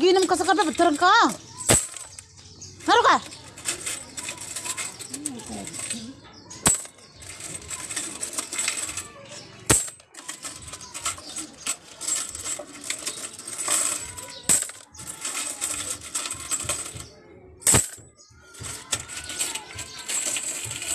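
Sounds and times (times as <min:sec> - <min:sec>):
coins clattering into basin: 0:00.0 - 0:20.9
coins clinking and jingling: 0:00.0 - 0:20.9.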